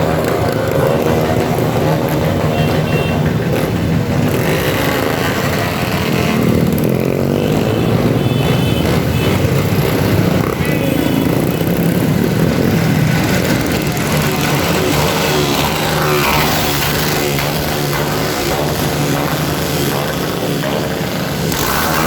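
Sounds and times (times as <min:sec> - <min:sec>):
motorcycle engines idling and revving: 0:00.0 - 0:22.0.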